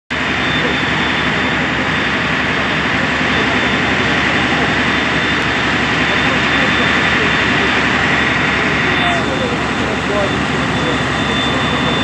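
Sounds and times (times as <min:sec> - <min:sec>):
fire truck engine droning: 0:00.1 - 0:12.0.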